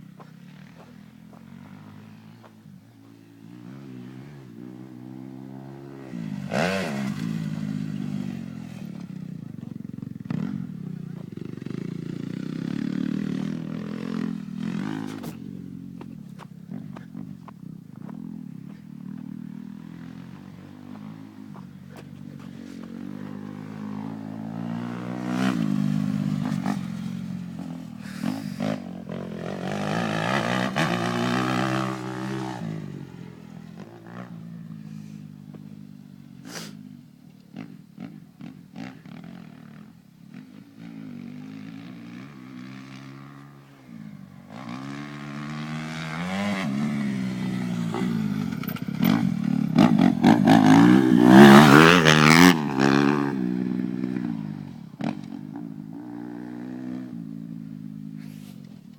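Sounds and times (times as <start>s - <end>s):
dirt bike engines revving: 0.0s - 58.9s.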